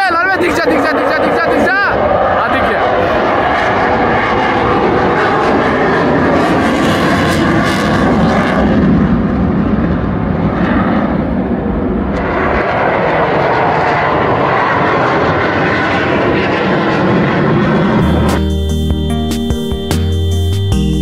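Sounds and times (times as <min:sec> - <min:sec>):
jet engine noise: 0:00.0 - 0:21.0.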